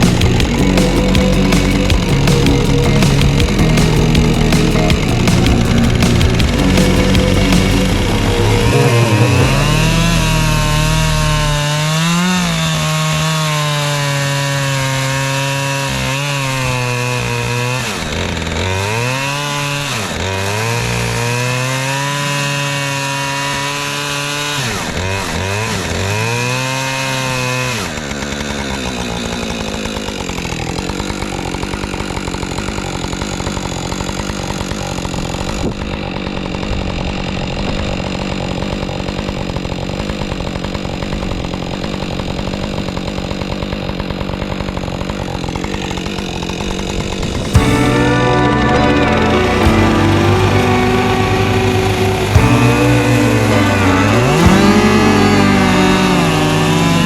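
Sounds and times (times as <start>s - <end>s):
chainsaw cutting into log: 0.0s - 57.0s.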